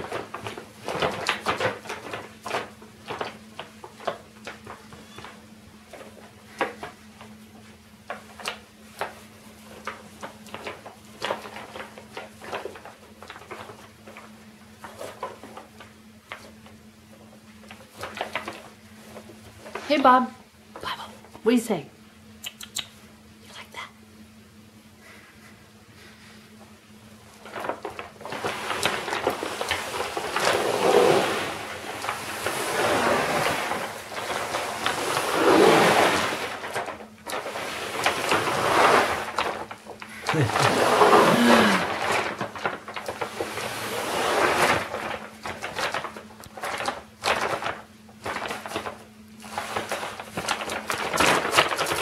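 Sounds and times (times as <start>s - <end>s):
paper bag crinkling: 0.0s - 20.3s, 27.2s - 52.0s
steady low hum: 0.0s - 52.0s.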